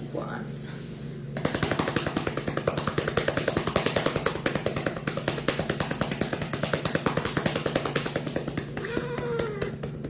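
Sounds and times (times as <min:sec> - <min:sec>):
hands patting cat: 0:01.4 - 0:10.0.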